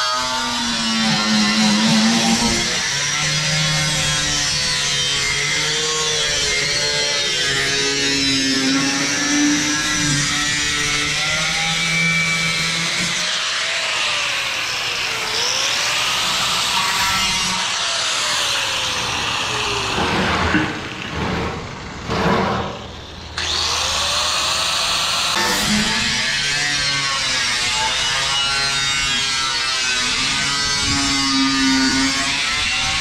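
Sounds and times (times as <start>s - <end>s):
angle grinder cutting steel: 0.0s - 33.0s.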